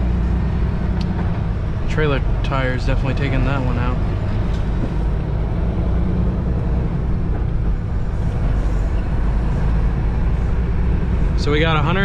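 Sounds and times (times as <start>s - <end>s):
diesel engine drone: 0.0s - 12.0s
road noise: 0.0s - 12.0s.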